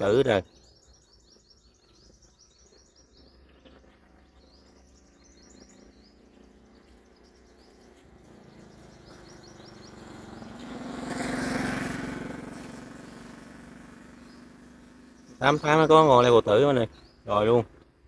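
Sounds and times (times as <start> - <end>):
sunbird chirping: 0.0 - 18.0
motorbike engine: 3.2 - 18.0.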